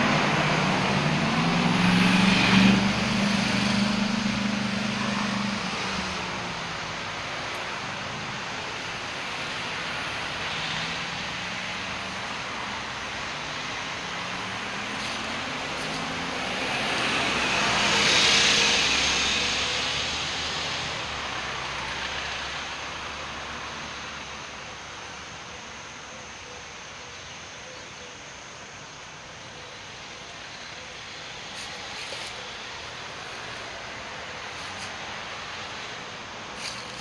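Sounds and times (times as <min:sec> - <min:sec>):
car passing close: 0:00.0 - 0:24.8, 0:30.5 - 0:37.0
road traffic noise: 0:00.0 - 0:37.0.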